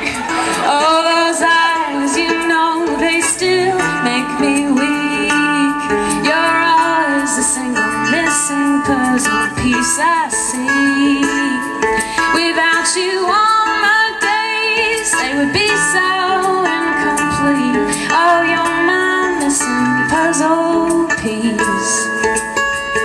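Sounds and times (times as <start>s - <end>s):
strummed acoustic stringed instrument: 0.0s - 23.0s
woman singing: 0.3s - 22.3s.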